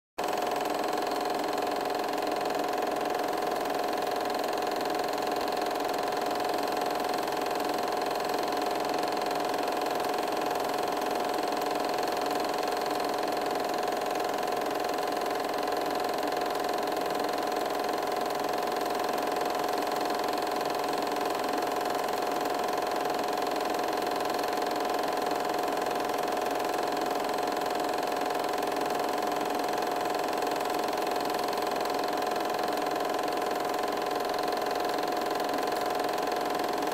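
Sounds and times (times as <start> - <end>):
film projector whirring: 0.2 - 36.9.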